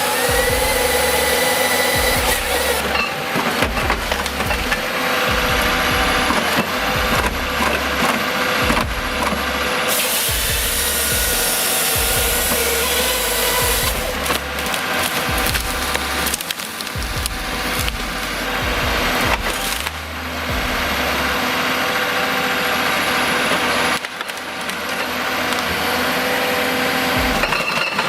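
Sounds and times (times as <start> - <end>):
engine running: 0.0 - 28.0
machine sawing wood: 0.0 - 28.0.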